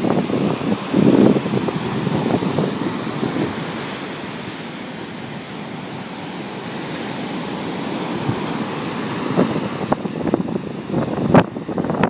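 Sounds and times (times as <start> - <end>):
waves washing up a sandy beach: 0.0 - 12.0.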